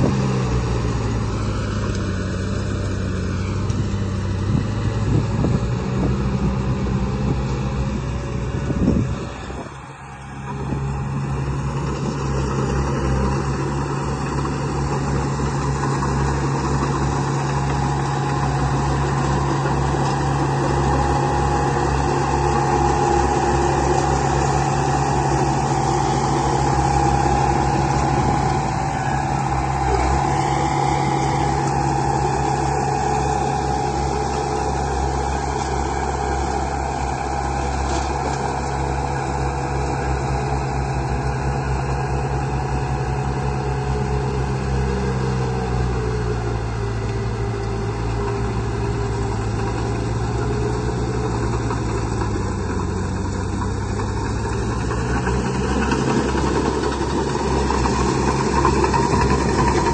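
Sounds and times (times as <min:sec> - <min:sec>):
construction machinery engine running: 0:00.0 - 0:59.9.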